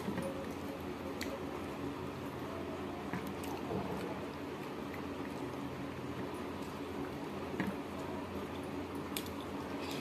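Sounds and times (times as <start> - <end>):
steady low hum: 0.0 - 10.0
wet squishing of food: 0.0 - 10.0.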